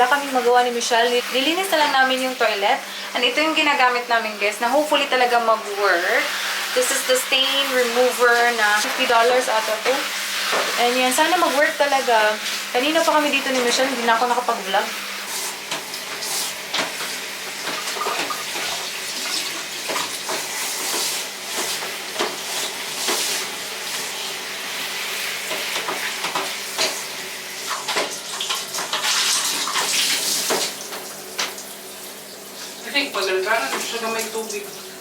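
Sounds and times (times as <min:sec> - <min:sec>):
shower water running and splashing: 0:00.0 - 0:35.0.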